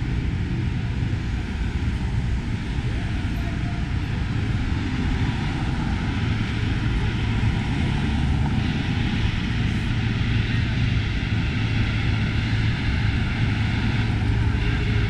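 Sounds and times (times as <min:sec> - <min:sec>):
city traffic rumble: 0:00.0 - 0:15.0
wide traffic hiss: 0:00.0 - 0:15.0.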